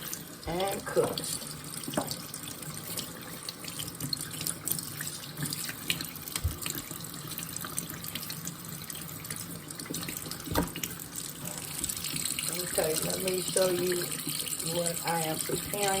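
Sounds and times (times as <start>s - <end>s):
water running from tap into sink: 0.0s - 16.0s.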